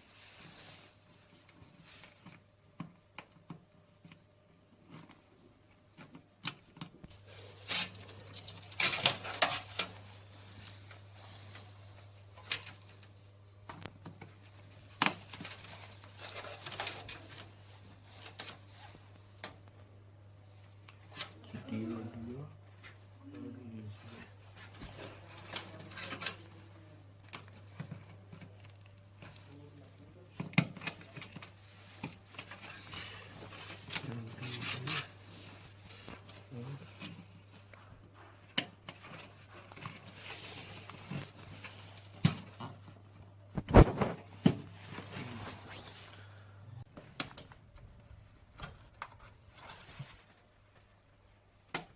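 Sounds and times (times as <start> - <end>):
rustling scrapes of plastic and cables: 0.0 - 2.5, 6.0 - 47.8, 48.6 - 51.1.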